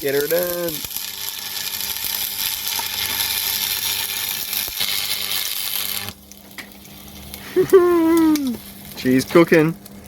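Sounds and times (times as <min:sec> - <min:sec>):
arc welder crackling hiss: 0:00.0 - 0:10.0.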